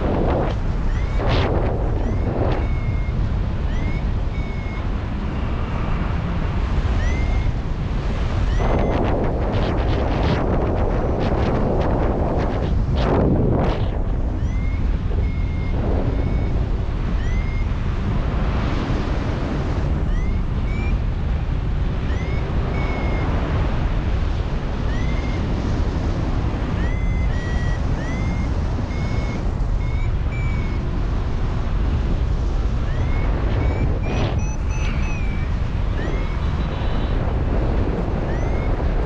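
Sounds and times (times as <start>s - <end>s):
variometer beeping: 0.0s - 5.8s, 6.6s - 18.1s, 19.8s - 21.2s, 21.8s - 23.8s, 24.7s - 25.9s, 26.6s - 39.0s
wind rumble on microphone: 0.0s - 39.0s.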